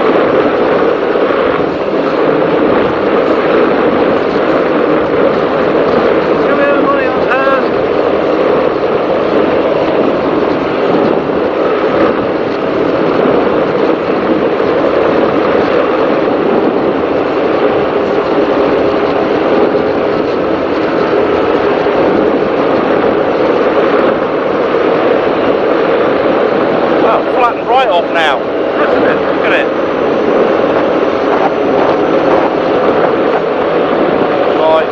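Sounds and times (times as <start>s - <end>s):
powerboat engines droning: 0.0s - 34.9s
rushing air and water: 0.0s - 34.9s.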